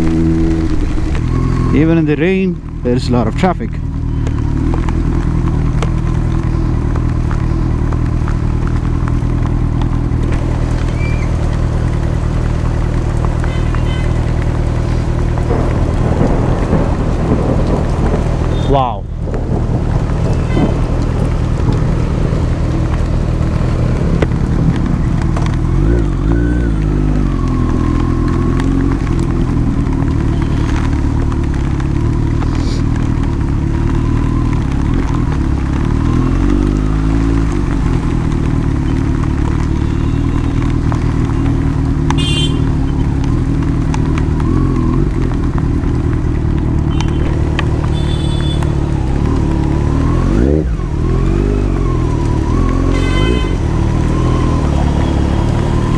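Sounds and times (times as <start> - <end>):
motorcycle engine running: 0.0 - 18.6, 19.2 - 55.9.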